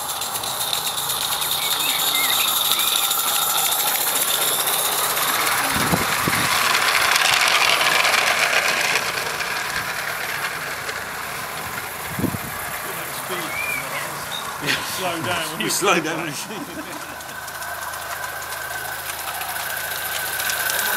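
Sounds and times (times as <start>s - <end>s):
model steam train running on track: 0.0s - 20.9s.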